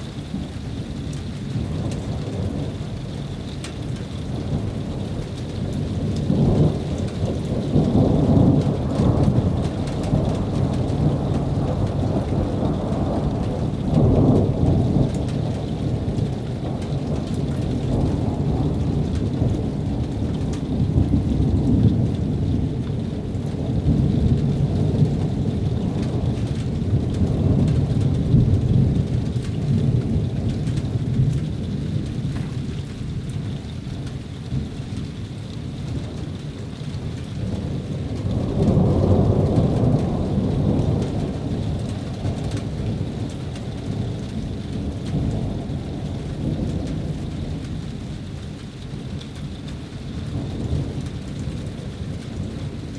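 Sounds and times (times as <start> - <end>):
thunder rumbling: 0.0 - 52.9.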